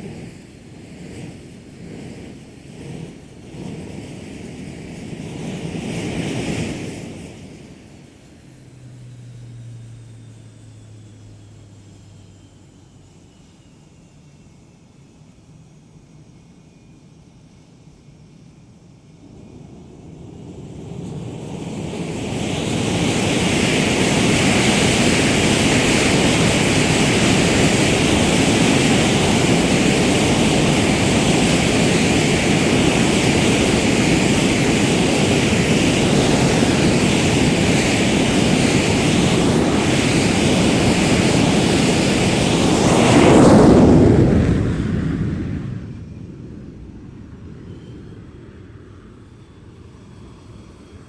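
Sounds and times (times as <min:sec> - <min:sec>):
jet engine roaring: 0:00.0 - 0:14.8, 0:18.8 - 0:51.0.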